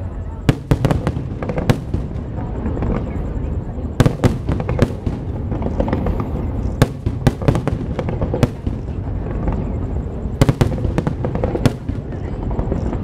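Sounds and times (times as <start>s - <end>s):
steady low rumble: 0.0s - 13.0s
fireworks bangs: 0.3s - 13.0s.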